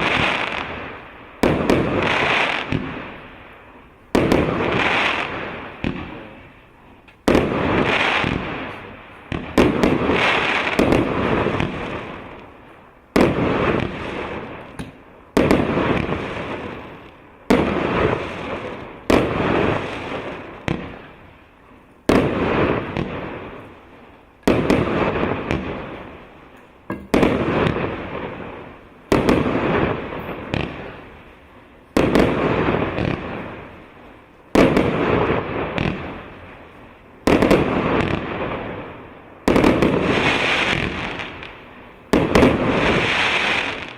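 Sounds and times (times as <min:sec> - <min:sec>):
fireworks bangs: 0:00.0 - 0:43.9.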